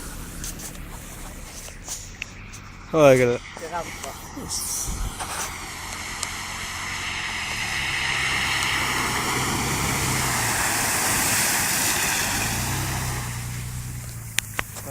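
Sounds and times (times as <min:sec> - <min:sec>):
car engine running: 0:00.0 - 0:14.9
rushing hiss of water: 0:03.0 - 0:14.9.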